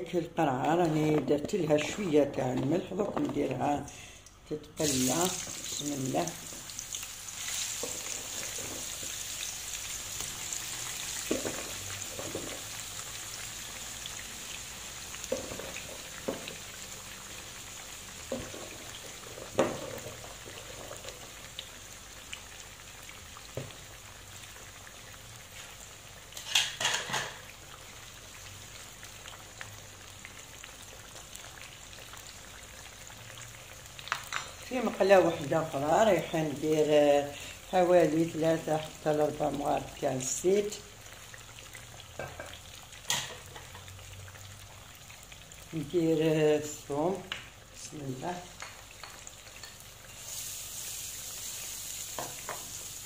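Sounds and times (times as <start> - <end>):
vegetables sizzling in hot oil: 4.7 - 53.0.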